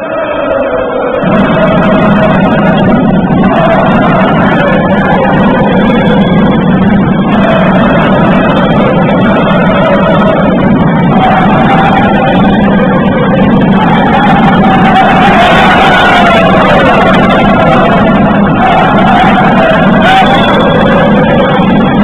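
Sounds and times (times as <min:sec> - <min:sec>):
basketball hall din: 0:00.0 - 0:22.0
faint drifting tones: 0:00.0 - 0:22.0.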